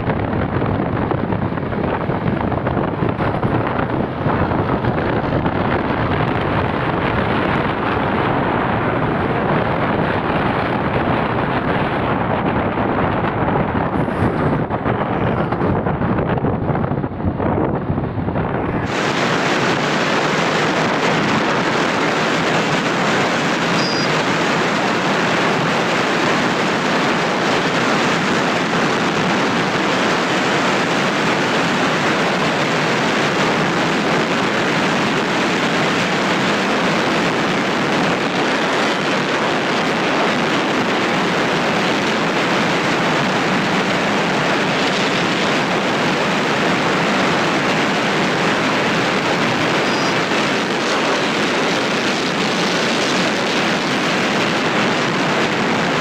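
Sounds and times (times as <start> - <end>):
wind and road noise on motorcycle: 0.0 - 56.0.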